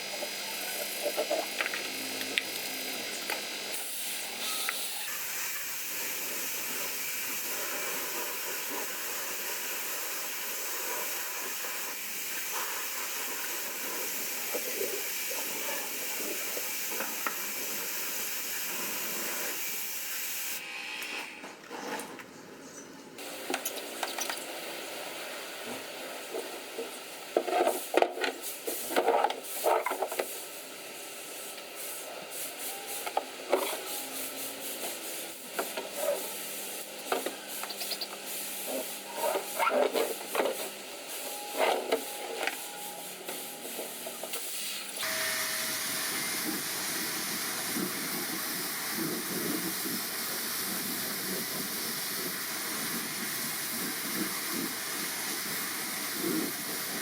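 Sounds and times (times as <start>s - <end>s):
spray hiss: 3.4s - 20.6s, 23.2s - 57.0s.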